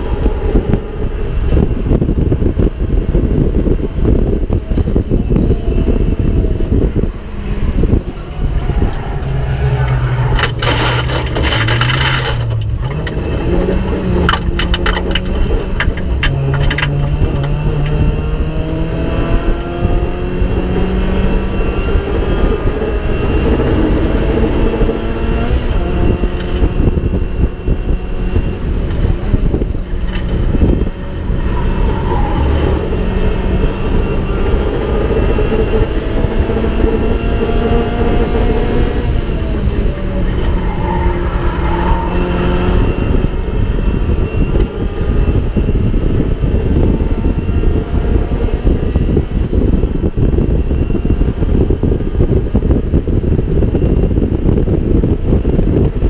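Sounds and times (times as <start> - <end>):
race car engine revving: 0.0 - 50.8
road and wind noise: 0.0 - 56.0.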